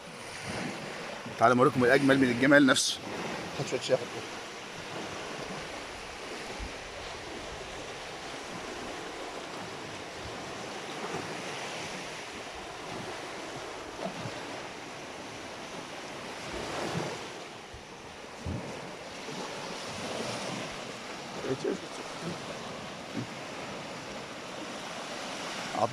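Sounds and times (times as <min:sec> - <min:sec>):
sea waves washing on shore: 0:00.0 - 0:25.9
wind buffeting microphone: 0:03.0 - 0:25.9.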